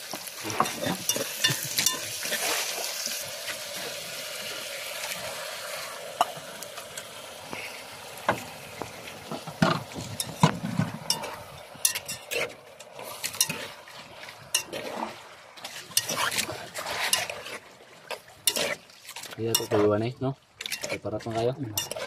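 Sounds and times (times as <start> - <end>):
squid sizzling in a pot: 0.0 - 19.9.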